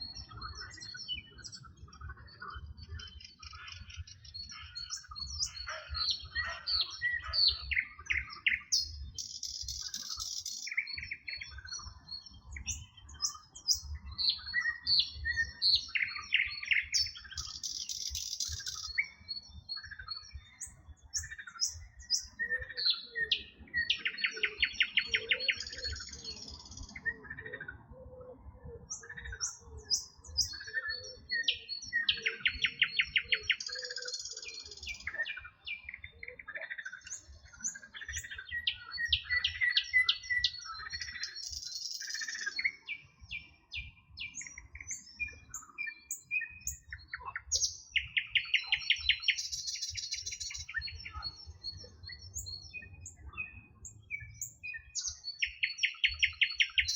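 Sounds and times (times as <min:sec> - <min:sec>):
songbirds singing and chirping: 0:00.0 - 0:56.9.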